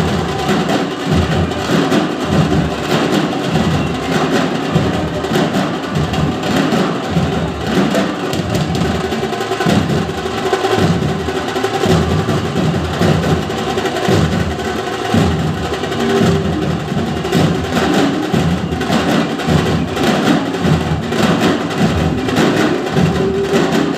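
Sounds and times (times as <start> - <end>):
dhol drumming ensemble: 0.0 - 23.9.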